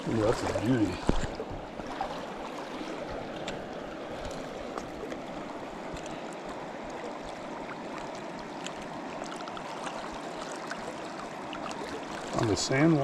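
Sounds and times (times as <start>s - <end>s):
faint splashes: 0.0s - 13.0s
river water running: 0.0s - 13.0s.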